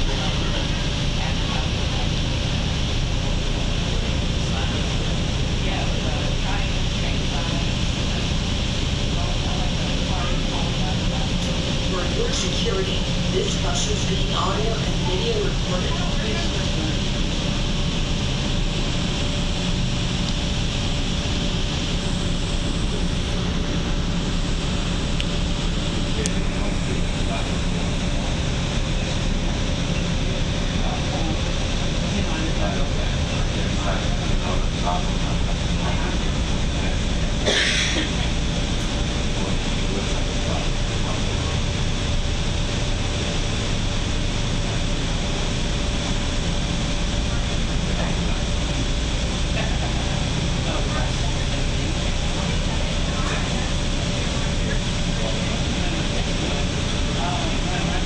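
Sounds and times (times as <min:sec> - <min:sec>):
bus road rumble: 0:00.0 - 0:58.0
faint steady hum: 0:00.0 - 0:58.0.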